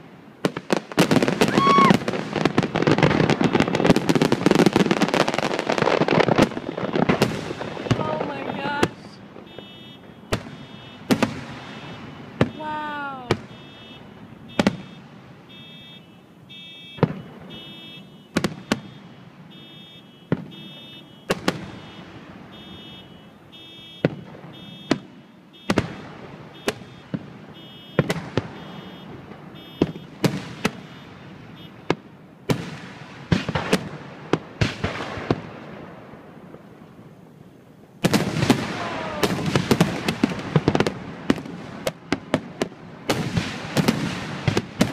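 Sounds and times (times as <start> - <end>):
fireworks exploding with sharp bangs: 0.0 - 44.9.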